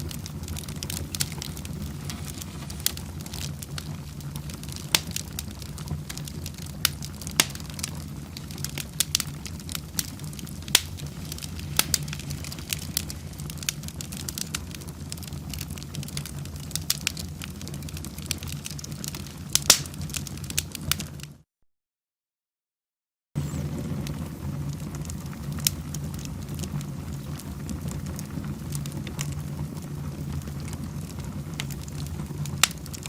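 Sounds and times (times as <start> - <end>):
low fire rumble: 0.0 - 21.4, 23.4 - 33.0
wood fire crackling and popping: 0.0 - 21.4, 23.4 - 33.0.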